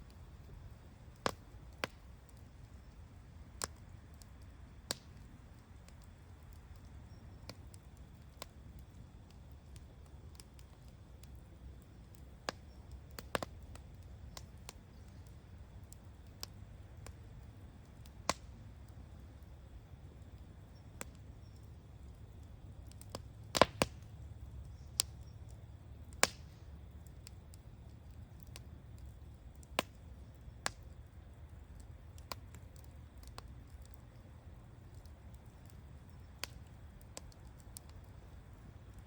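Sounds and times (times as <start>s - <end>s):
campfire crackling and popping: 0.0s - 39.0s
low fire rumble: 0.0s - 39.0s.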